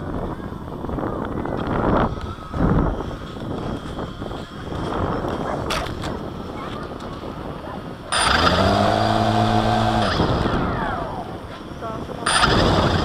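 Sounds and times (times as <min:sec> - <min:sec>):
motor hum: 0:00.0 - 0:13.0
wind rumbling on microphone: 0:00.0 - 0:13.0.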